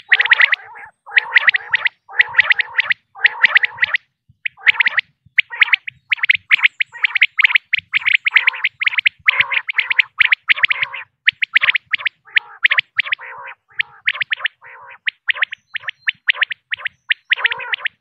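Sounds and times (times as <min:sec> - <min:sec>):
quail chirping calls: 0:00.0 - 0:18.0.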